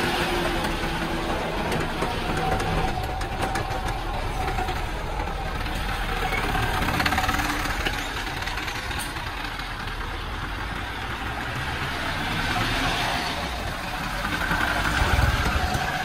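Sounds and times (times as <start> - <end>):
diesel truck engine pulling away: 0.0 - 16.0.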